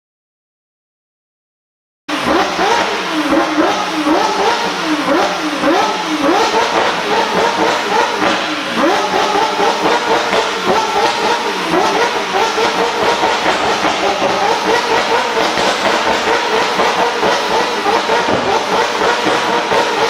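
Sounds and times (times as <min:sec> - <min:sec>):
sports car engine revving: 0:02.1 - 0:20.0.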